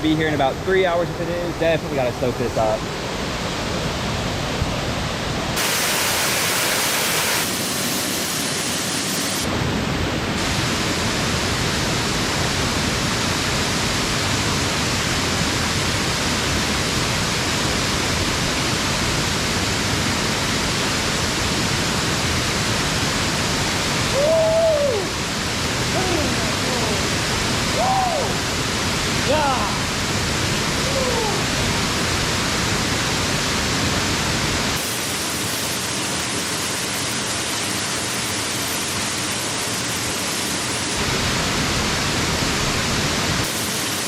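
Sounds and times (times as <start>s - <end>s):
waterfall rushing: 0.1s - 44.0s.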